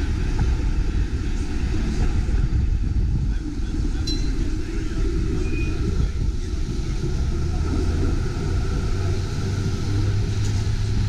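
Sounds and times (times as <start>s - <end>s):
streetcar rumbling: 0.0s - 11.0s.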